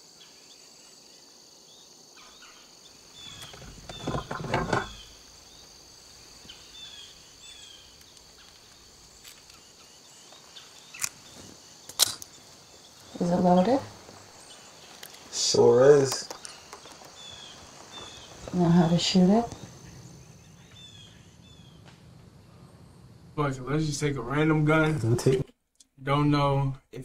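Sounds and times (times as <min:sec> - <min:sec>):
insects chirring: 0:00.0 - 0:25.4.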